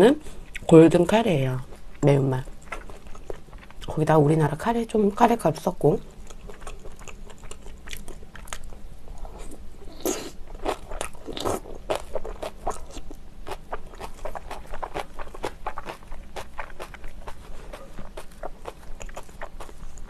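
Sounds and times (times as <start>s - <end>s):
chewing crunchy food: 0.3s - 4.0s, 6.0s - 20.0s.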